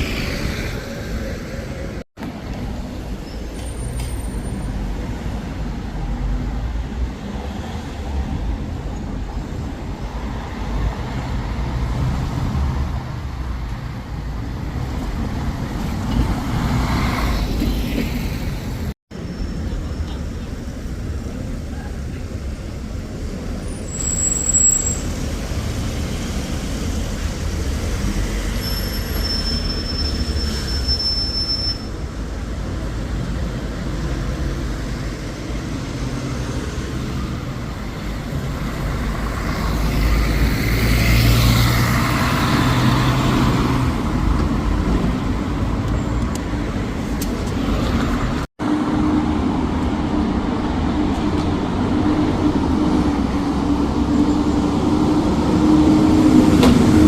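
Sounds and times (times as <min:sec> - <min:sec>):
road traffic rumbling: 0:00.0 - 0:57.0.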